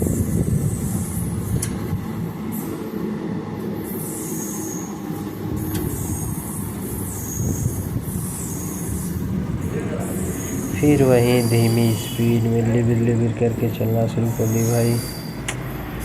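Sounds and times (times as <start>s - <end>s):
train wheels squealing: 0.0s - 1.9s, 2.5s - 16.0s
train coach rumbling: 0.0s - 16.0s.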